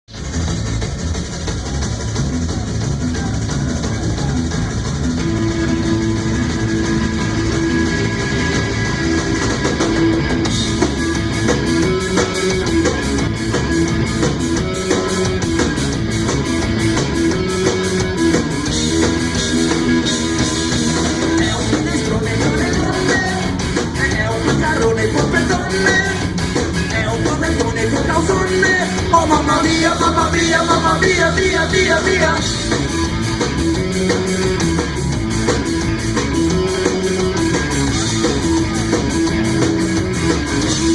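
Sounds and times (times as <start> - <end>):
live rock band playing: 0.1 - 40.9.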